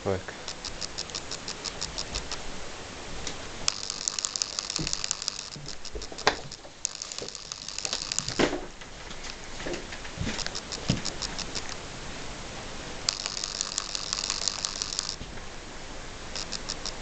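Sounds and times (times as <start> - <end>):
insects chirping: 0.3 - 8.8, 9.4 - 11.9, 13.0 - 17.0
sharp clicks and knocks: 0.4 - 2.4, 3.2 - 11.8, 13.1 - 15.5, 16.4 - 17.0.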